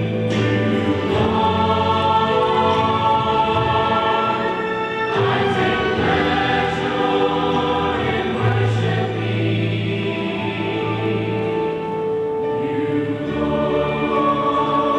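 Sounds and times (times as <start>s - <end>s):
choir singing sustained chords: 0.0s - 14.9s.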